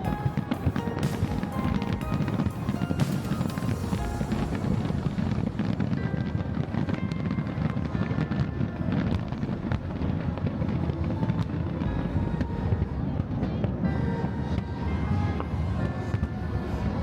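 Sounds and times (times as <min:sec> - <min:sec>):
fireworks booming and crackling: 0:00.0 - 0:13.9
music: 0:00.0 - 0:17.0.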